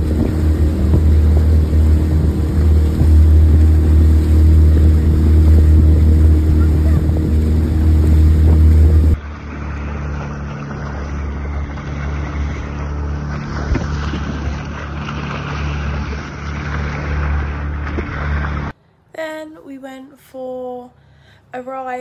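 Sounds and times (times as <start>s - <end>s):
motorboat engine running: 0.0s - 18.8s
water rushing: 0.0s - 18.8s
wind buffeting microphone: 0.0s - 18.8s.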